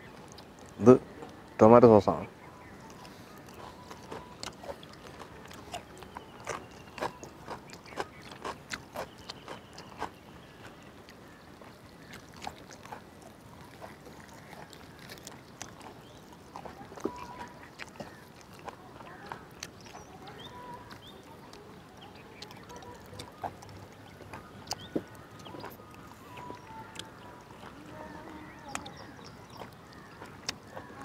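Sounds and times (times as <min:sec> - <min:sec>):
people chewing meat: 0:00.0 - 0:31.0.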